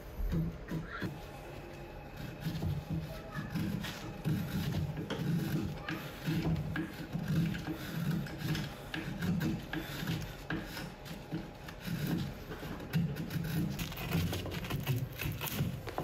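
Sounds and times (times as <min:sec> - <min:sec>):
hand tool scraping wood: 0:02.1 - 0:16.0.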